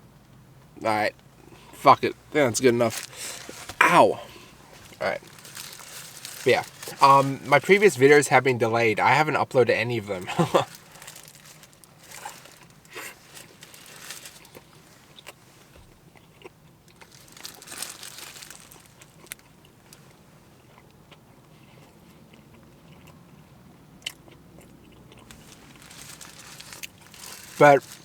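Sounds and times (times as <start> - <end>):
crunchy biting and chewing: 2.4 - 7.5, 10.2 - 28.0.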